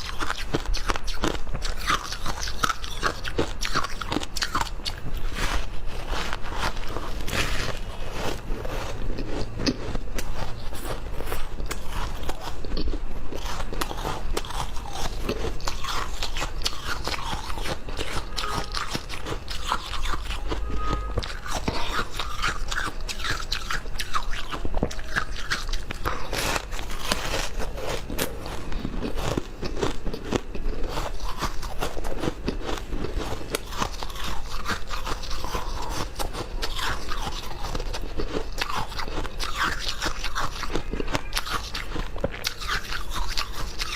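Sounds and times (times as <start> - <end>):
person crunching ice: 0.0 - 43.9.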